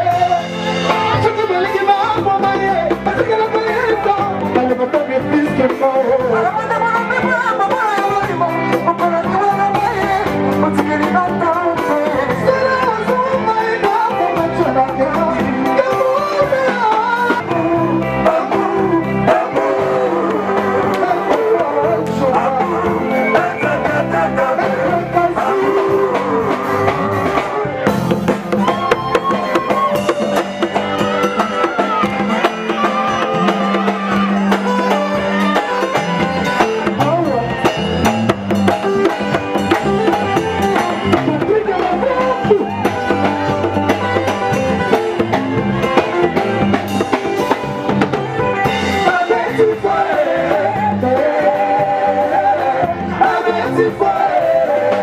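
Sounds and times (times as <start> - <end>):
drums: 0.0 - 55.0
person singing: 0.0 - 55.0.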